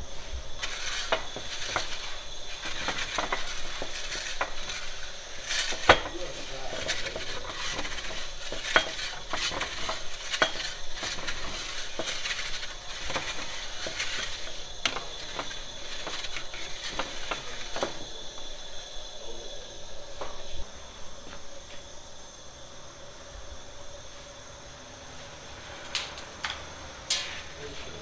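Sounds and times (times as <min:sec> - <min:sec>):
oven flame hissing: 0:00.0 - 0:28.0.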